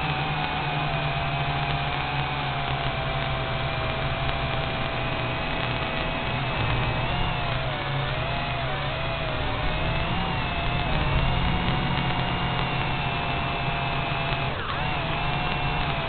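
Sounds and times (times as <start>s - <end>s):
drone propellers whining: 0.0s - 16.0s
steady hiss and hum: 0.0s - 16.0s.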